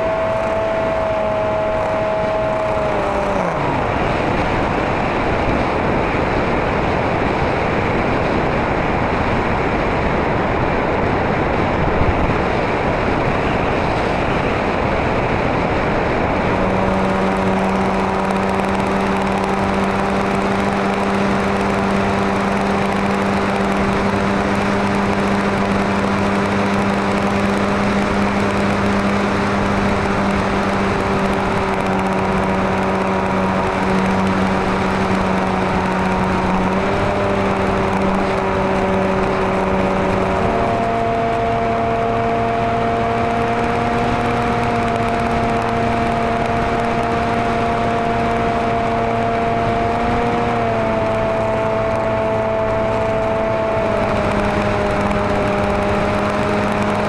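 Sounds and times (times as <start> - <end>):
model plane motor and propeller drone: 0.0 - 57.0.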